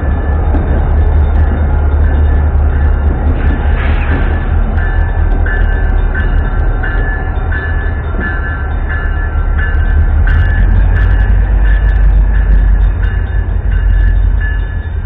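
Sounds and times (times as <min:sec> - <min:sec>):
heavy low rumble: 0:00.0 - 0:15.0
railroad crossing bells ringing: 0:00.0 - 0:15.0.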